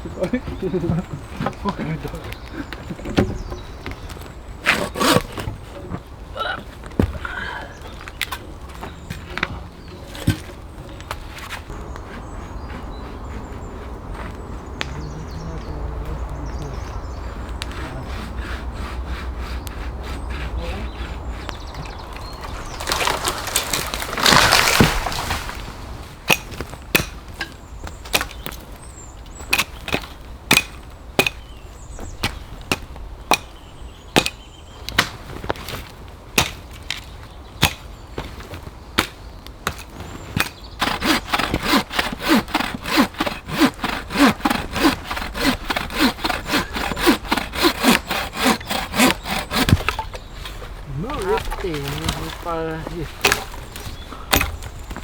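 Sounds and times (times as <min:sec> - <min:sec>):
hand saw cutting wood: 0:00.1 - 0:06.0, 0:08.2 - 0:34.4, 0:39.7 - 0:55.0.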